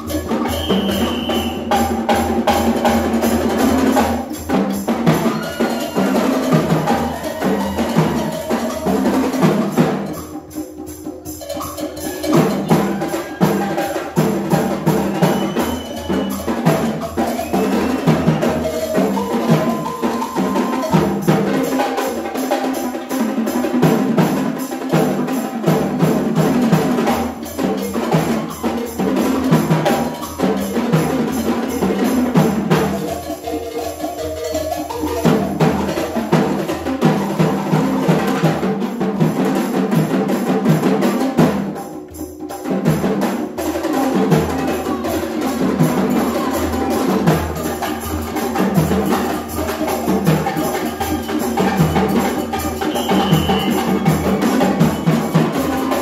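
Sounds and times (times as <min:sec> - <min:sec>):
hand drums: 0:00.0 - 0:56.0.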